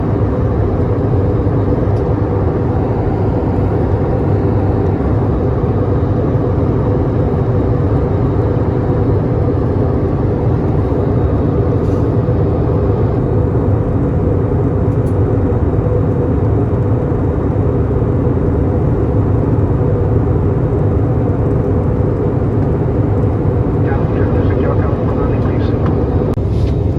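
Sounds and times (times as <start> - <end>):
airliner cabin engine drone: 0.0 - 26.9.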